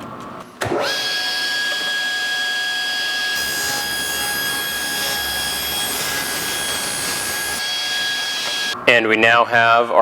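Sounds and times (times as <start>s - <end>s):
table saw motor whining: 0.7s - 8.8s.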